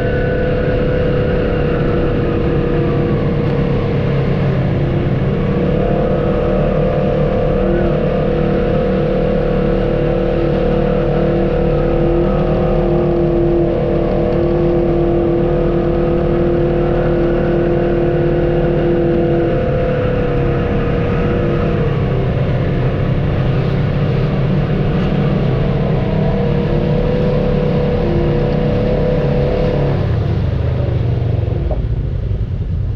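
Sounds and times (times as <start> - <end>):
held whine: 0.0 - 32.9
vehicle engine running: 0.0 - 32.9.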